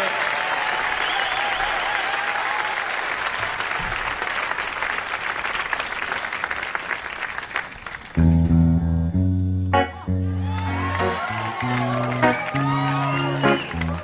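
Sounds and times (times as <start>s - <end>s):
audience applauding: 0.0s - 8.2s, 10.1s - 14.0s.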